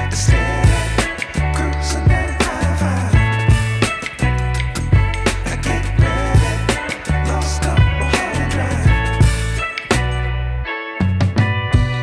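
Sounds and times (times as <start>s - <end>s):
music with bass and drums: 0.0s - 12.0s.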